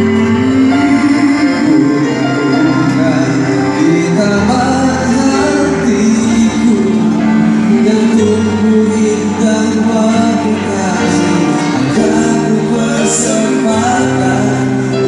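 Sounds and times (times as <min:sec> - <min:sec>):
men singing into microphones: 0:00.0 - 0:15.0
sustained accompaniment chords: 0:00.0 - 0:15.0.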